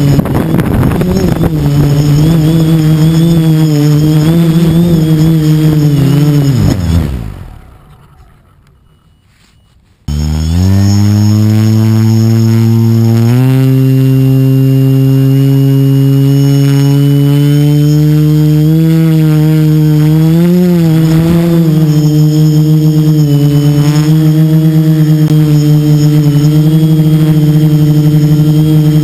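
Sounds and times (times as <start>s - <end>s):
quadcopter motors and propellers: 0.0s - 9.0s, 10.0s - 29.0s.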